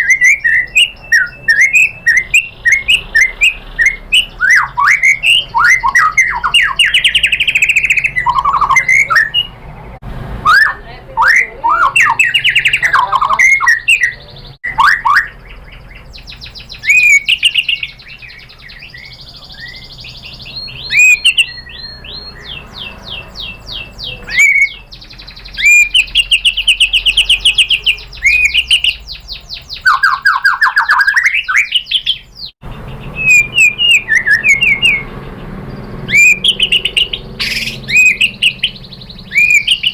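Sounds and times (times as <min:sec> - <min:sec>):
songbird singing whistles and trills: 0:00.0 - 0:09.7, 0:10.5 - 0:39.9.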